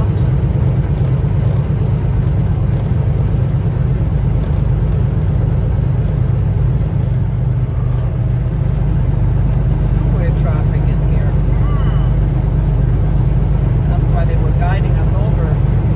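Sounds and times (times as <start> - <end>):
truck engine and road noise: 0.0 - 15.9.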